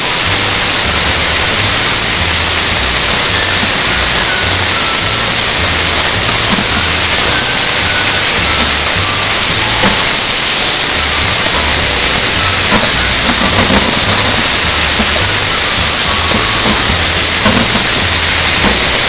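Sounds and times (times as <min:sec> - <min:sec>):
background music with bass line: 0:00.0 - 0:10.3, 0:11.0 - 0:19.0
meat and onions sizzling in wok: 0:00.0 - 0:19.0.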